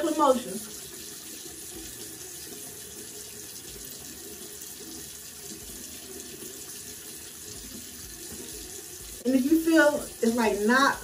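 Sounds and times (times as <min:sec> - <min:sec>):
tap water running into basin: 0:00.0 - 0:11.0.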